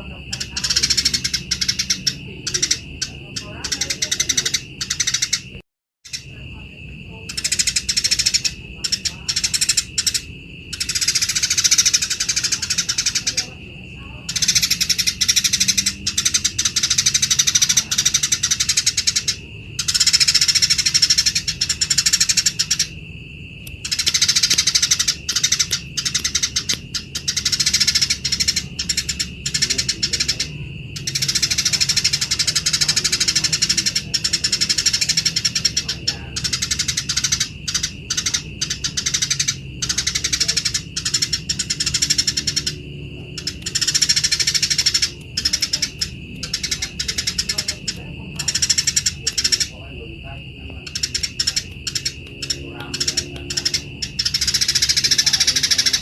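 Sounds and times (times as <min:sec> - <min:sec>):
sparrows chattering harshly: 0:00.0 - 0:56.0.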